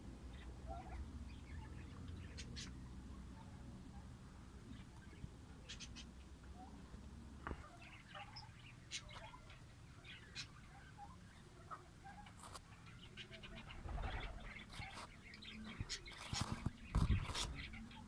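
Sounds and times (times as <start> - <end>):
lovebirds chirping and squeaking: 0.3 - 2.8, 4.7 - 6.8, 7.5 - 18.0.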